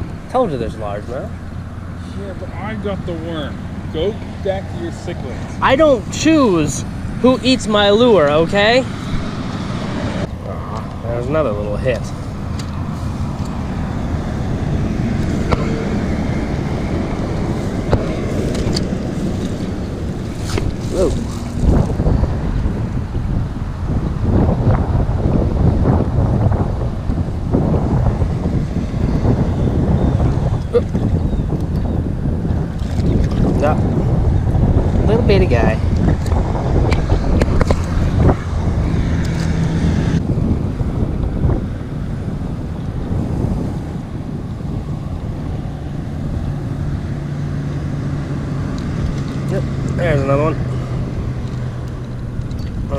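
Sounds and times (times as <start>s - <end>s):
low wind rumble on microphone: 0.0s - 52.9s.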